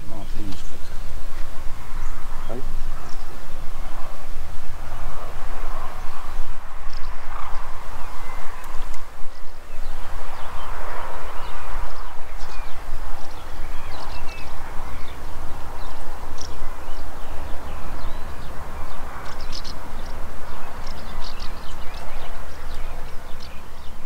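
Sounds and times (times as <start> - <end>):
small birds chirping: 0.0 - 24.0
wind rumble on microphone: 0.0 - 24.0.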